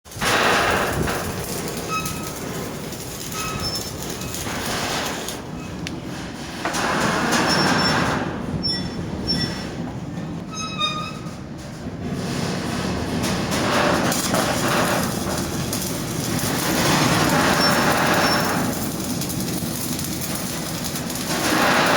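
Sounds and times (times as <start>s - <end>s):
metal containers creaking and squealing: 0.1s - 21.9s.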